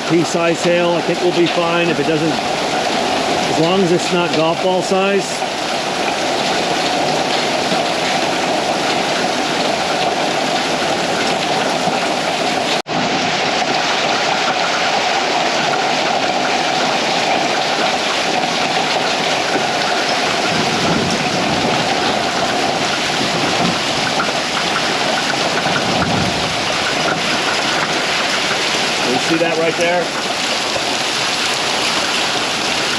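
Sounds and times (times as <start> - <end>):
heavy rain and hail: 0.0 - 32.9.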